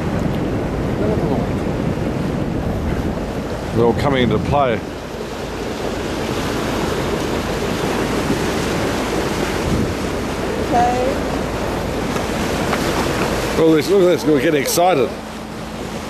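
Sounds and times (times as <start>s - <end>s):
water rushing along boat hull: 0.0s - 16.0s
wind buffeting microphone: 0.0s - 16.0s.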